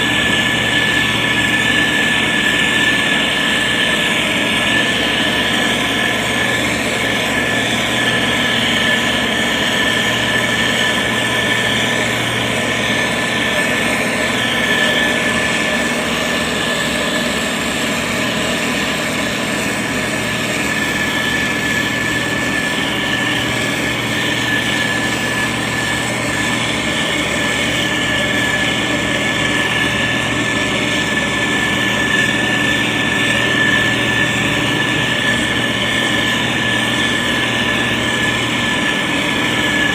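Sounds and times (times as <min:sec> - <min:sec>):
constant high whine: 0:00.0 - 0:39.9
diesel engine running: 0:00.0 - 0:39.9.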